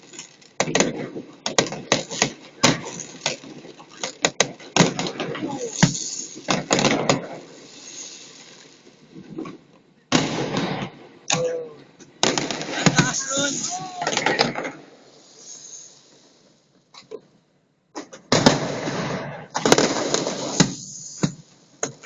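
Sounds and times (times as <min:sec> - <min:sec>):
fireworks bangs and crackles: 0:00.0 - 0:11.4, 0:12.0 - 0:17.2, 0:17.9 - 0:22.0.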